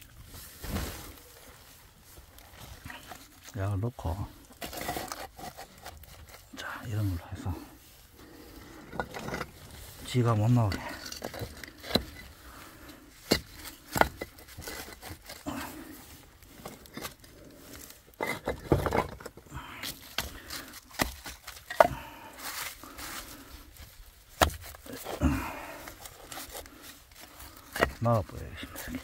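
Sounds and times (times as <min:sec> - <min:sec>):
slabs scraping on dirt: 0:00.4 - 0:29.0.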